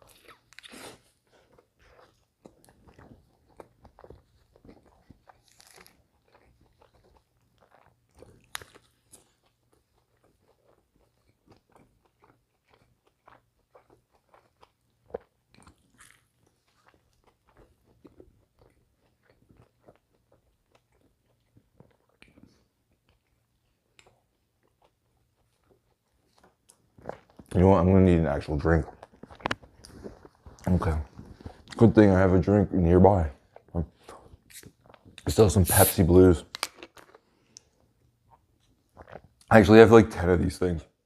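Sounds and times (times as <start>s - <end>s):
person chewing wetly: 0.0s - 27.6s, 28.5s - 31.9s, 33.4s - 39.5s.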